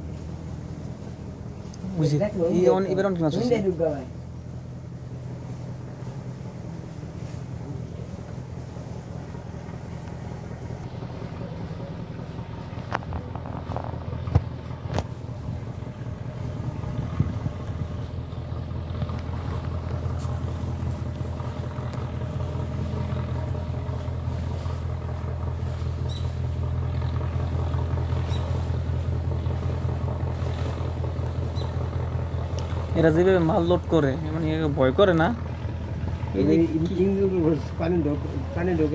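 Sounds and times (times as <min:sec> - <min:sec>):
boat diesel engine humming: 0:00.0 - 0:38.9.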